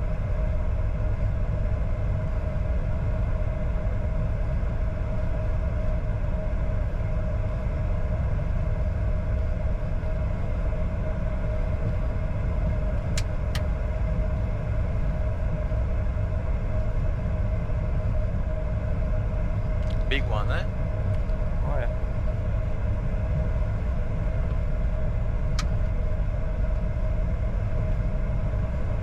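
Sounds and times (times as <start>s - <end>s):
jet engines idling: 0.1s - 29.0s.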